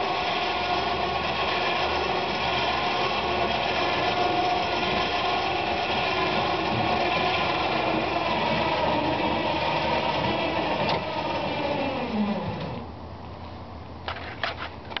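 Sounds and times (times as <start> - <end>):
small motor whining: 0.0 - 12.9.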